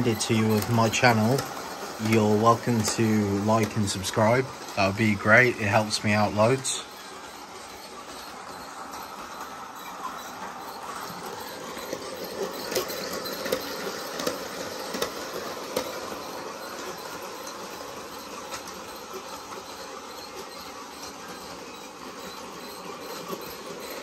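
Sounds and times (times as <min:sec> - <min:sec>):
model train wheels rattling on rail: 0:00.0 - 0:24.0
wagons clicking: 0:00.0 - 0:24.0.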